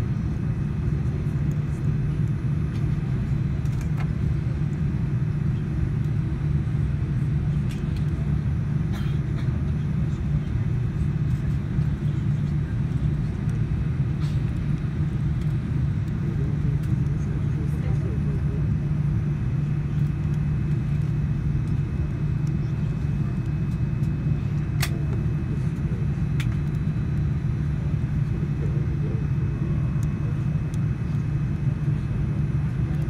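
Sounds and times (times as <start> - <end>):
low engine rumble in cabin: 0.0 - 33.0.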